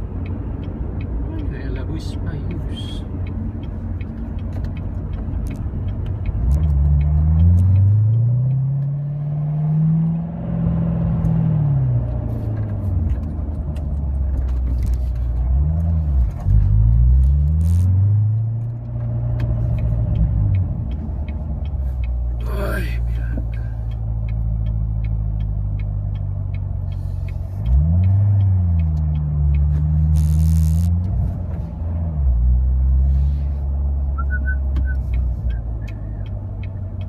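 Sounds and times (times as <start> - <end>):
car engine revving while driving: 0.0 - 37.0.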